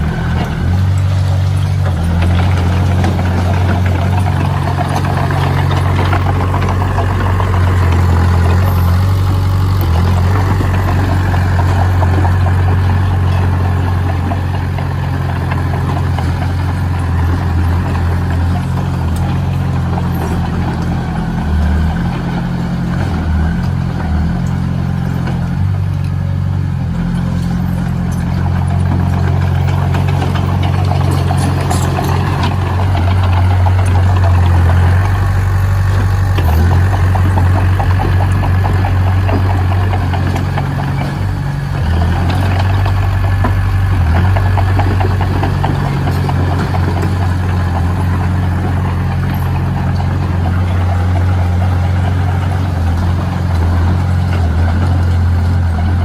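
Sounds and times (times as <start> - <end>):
heavy machine engine droning: 0.0 - 56.0.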